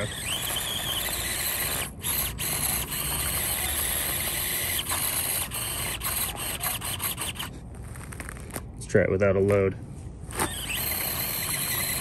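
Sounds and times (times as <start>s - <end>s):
small electric motor whining: 0.0s - 8.6s, 10.3s - 12.0s.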